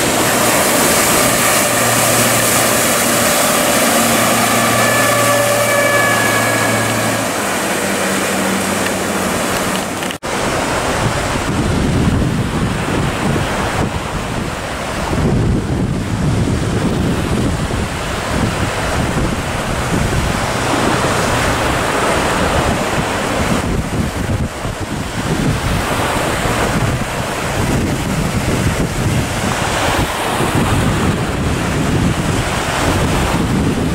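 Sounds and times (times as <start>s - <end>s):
choppy sea and breaking waves: 0.0s - 33.9s
outboard motor: 0.0s - 33.9s
wind buffeting microphone: 0.0s - 33.9s.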